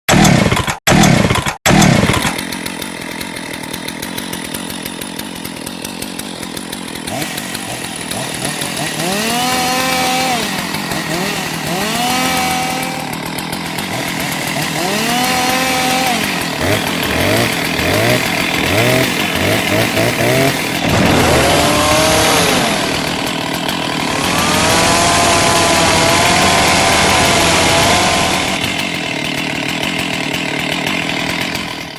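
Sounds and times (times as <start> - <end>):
chainsaw engine idling and revving: 0.1 - 31.9.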